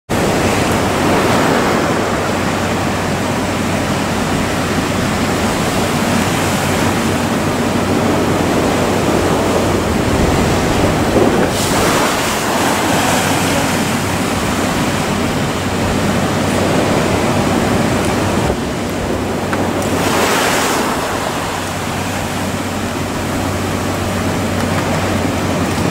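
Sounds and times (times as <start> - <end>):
surf rushing and breaking: 0.1 - 25.9
wind buffeting microphone: 0.1 - 25.9.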